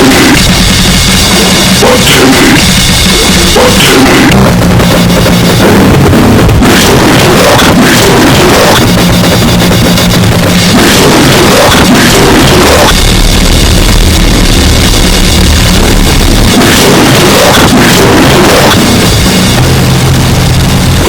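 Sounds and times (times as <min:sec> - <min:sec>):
distorted death metal music: 0:00.0 - 0:21.0
drum kit: 0:00.0 - 0:21.0.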